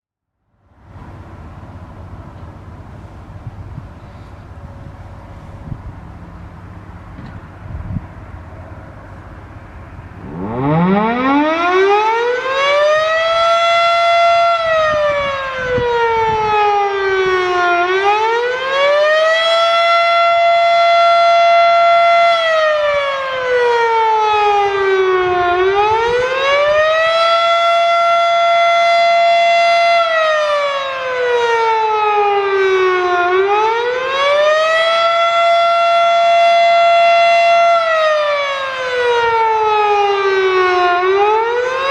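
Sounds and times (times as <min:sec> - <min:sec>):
warning siren wailing: 0:05.3 - 0:41.9.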